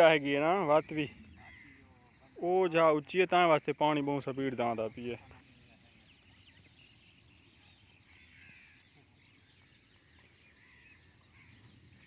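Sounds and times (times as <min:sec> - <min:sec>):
faint distant bird calls: 0:00.0 - 0:12.0.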